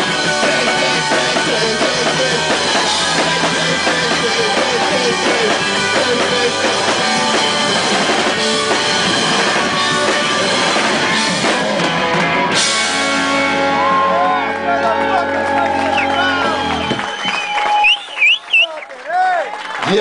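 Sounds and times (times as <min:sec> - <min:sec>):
rock band playing live: 0:00.0 - 0:17.4.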